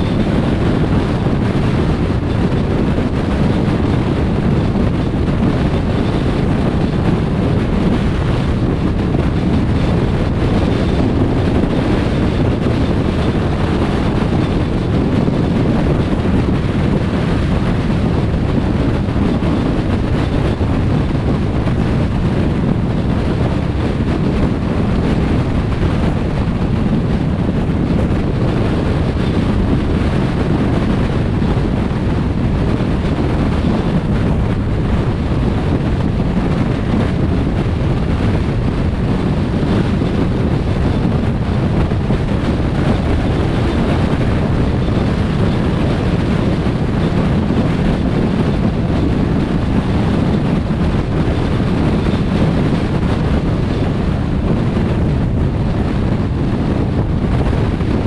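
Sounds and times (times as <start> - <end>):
wind rushing: 0.0 - 58.0.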